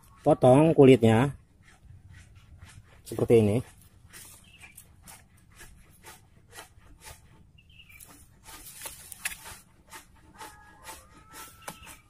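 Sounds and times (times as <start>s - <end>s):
knife scraping bark: 0.0s - 12.0s.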